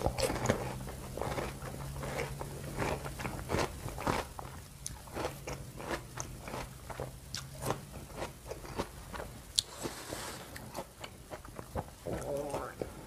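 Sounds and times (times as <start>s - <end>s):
crunchy chewing of fruit: 0.0s - 13.0s.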